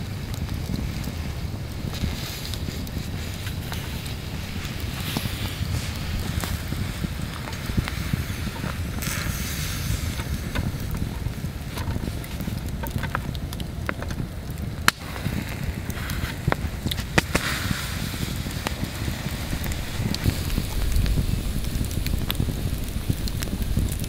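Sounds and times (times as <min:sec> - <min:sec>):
campfire crackling: 0:00.0 - 0:24.0
low steady rumble: 0:00.0 - 0:24.0.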